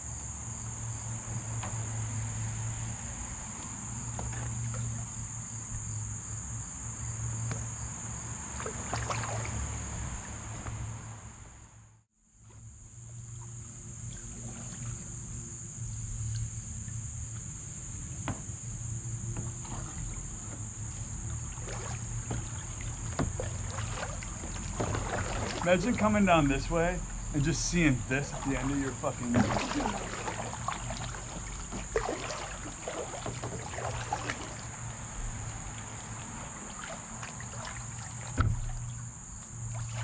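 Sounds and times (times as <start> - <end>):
insect chorus: 0.0 - 40.0
paddle splashes and drips: 0.7 - 6.2, 7.4 - 11.2, 12.4 - 40.0.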